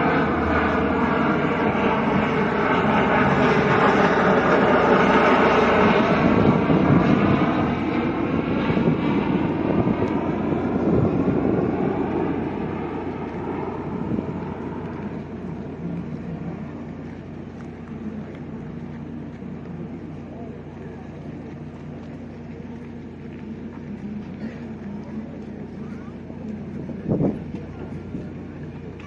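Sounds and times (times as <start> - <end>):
turboprop aircraft flying past: 0.0 - 29.0.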